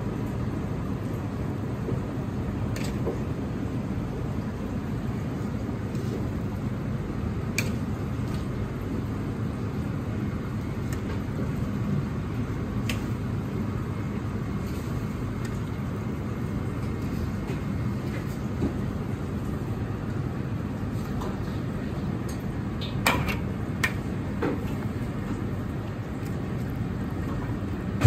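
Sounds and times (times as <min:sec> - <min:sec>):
low roar of kitchen machinery: 0:00.0 - 0:28.0.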